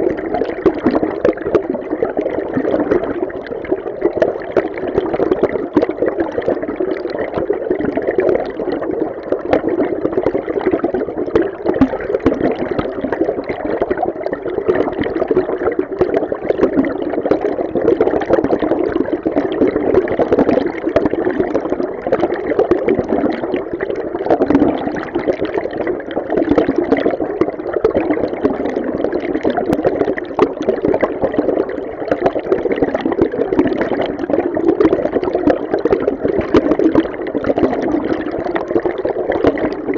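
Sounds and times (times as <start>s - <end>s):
muffled underwater stream rush: 0.0s - 39.9s.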